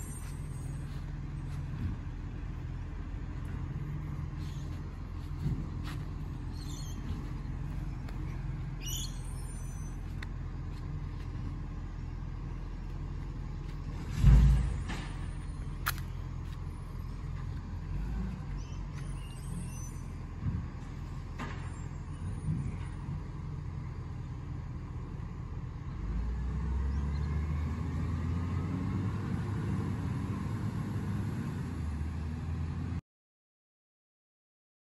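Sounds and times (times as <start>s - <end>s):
garbage truck diesel engine rumble: 0.0s - 33.0s.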